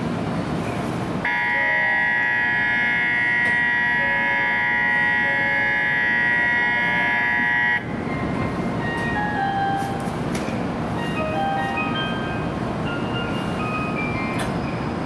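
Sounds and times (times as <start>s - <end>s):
electronic platform departure bell: 1.2s - 15.0s.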